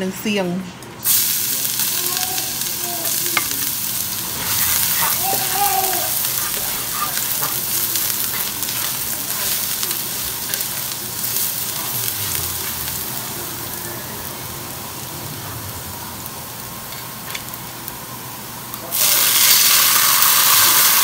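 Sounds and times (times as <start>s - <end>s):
hot oil sizzling in a pan: 1.0s - 21.0s.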